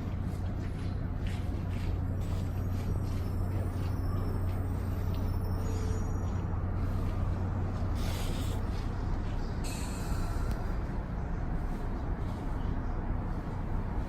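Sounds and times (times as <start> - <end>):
train engine hum: 0.0 - 14.0.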